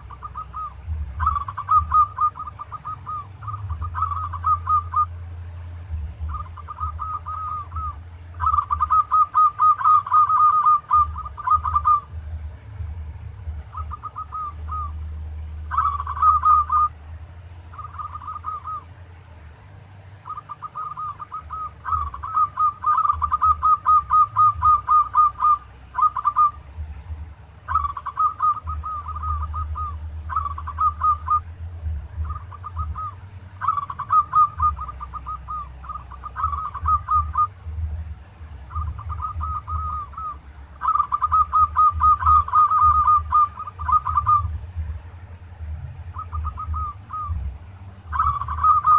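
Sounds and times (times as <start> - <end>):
dove cooing: 0.0 - 19.0, 20.1 - 48.9
low hum: 0.0 - 48.9.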